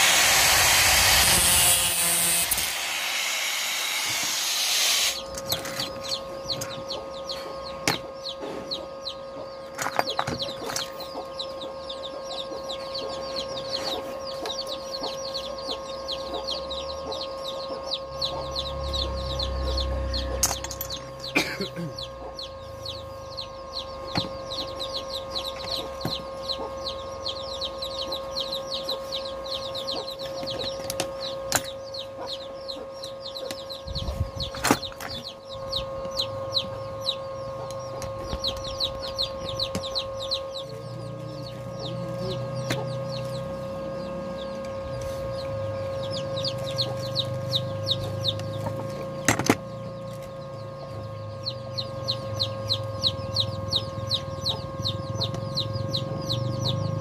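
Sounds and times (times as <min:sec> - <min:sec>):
steady hum: 0:00.0 - 0:57.0
birds chirping: 0:01.2 - 0:57.0.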